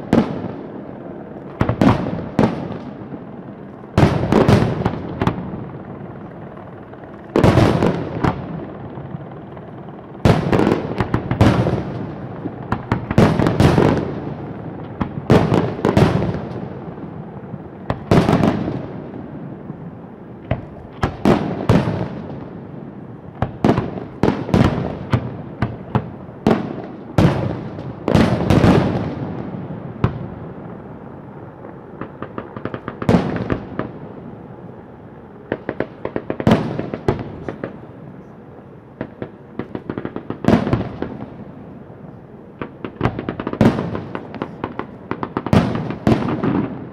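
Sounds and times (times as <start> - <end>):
fireworks bangs and cracks: 0.0 - 3.3, 3.9 - 5.6, 7.3 - 8.7, 10.2 - 30.9, 31.6 - 34.2, 35.4 - 37.8, 39.0 - 41.6, 42.6 - 46.9.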